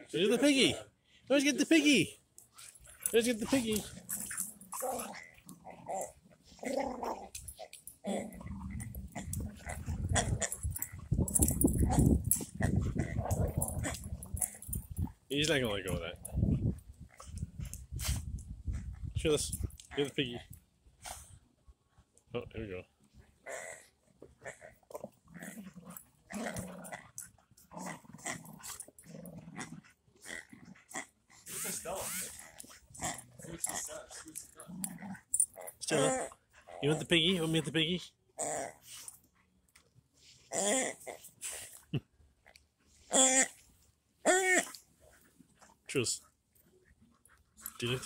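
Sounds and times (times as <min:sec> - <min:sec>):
dogs growling in play: 0:01.9 - 0:20.1, 0:23.1 - 0:48.0.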